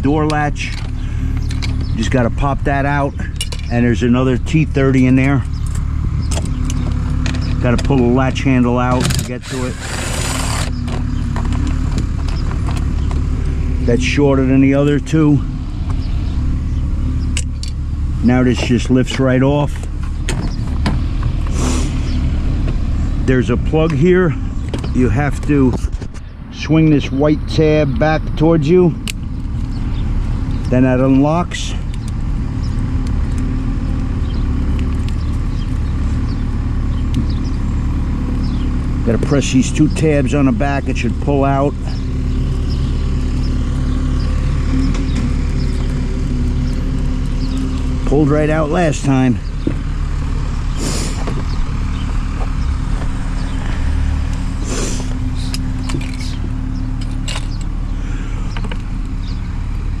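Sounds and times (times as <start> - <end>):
low mechanical rumble: 0.0 - 60.0
steady low hum: 0.0 - 60.0.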